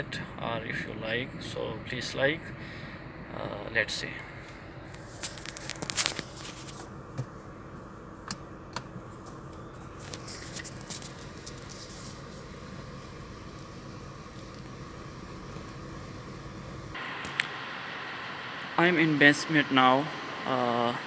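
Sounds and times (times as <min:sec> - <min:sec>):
low fan hum: 0:00.0 - 0:21.0.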